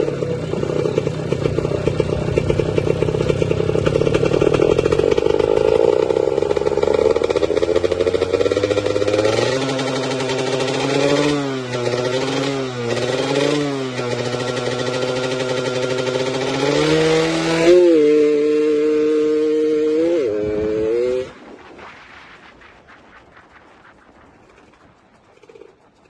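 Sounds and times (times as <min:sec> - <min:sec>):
two-stroke moped engine revving: 0:00.0 - 0:21.4.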